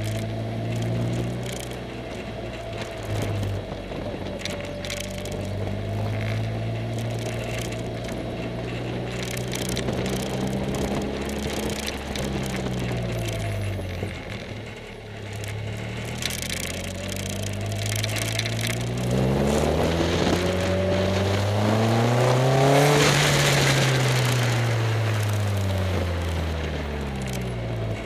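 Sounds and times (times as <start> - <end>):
light rattling clicks: 0.0 - 20.9, 23.0 - 28.0
car engine driving: 0.0 - 28.0.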